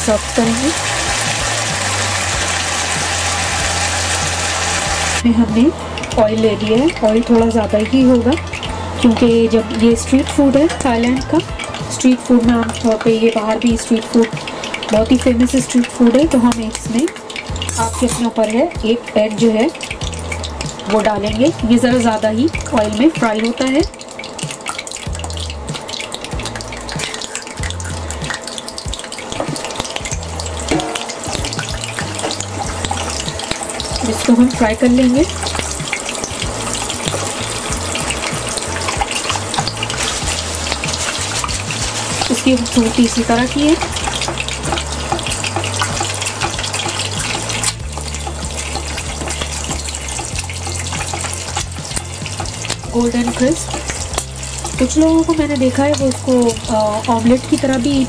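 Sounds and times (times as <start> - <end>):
egg sizzling in hot oil: 0.0 - 58.0.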